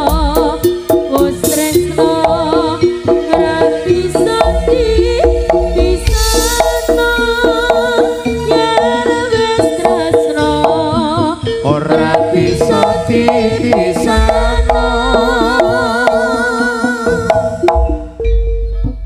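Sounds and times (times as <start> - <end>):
gamelan ensemble playing: 0.0 - 19.0
hand drums: 0.0 - 19.0
ringing metallophone notes: 0.0 - 19.0
wavering melody with vibrato: 0.0 - 19.0.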